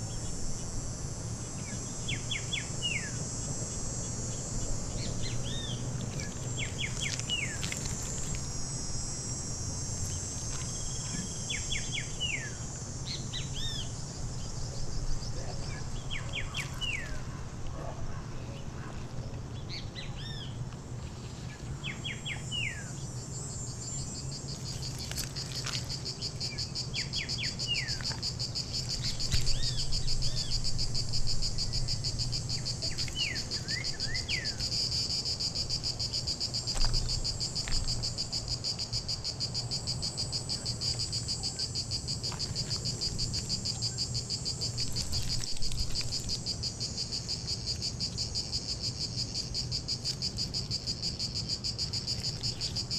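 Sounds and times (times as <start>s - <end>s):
high-pitched insect chorus: 0.0s - 52.9s.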